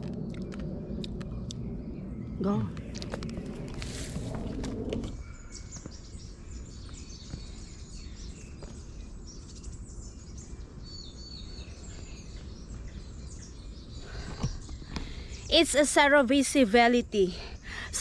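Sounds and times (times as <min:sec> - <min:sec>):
low background rumble: 0:00.0 - 0:18.0
wild birds chirping: 0:00.0 - 0:18.0.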